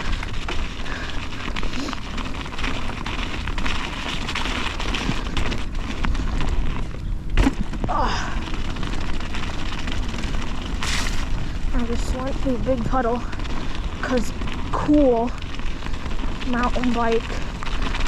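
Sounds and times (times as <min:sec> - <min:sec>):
bike rattling over rough ground: 0:00.0 - 0:18.0.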